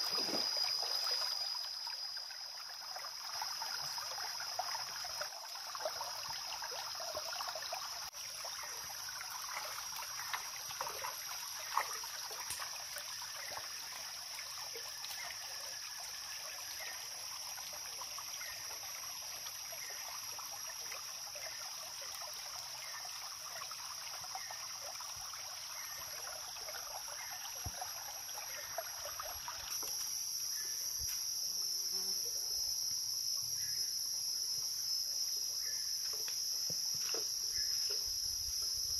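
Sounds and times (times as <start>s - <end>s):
stream trickling among rocks: 0.0s - 31.8s, 32.6s - 38.9s
high-pitched insect chorus: 0.0s - 38.9s.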